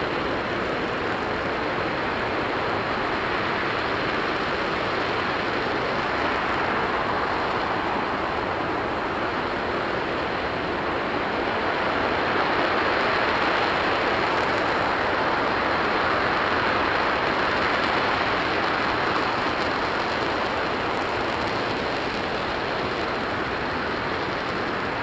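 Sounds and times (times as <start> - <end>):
rocket engine roaring: 0.0 - 25.0.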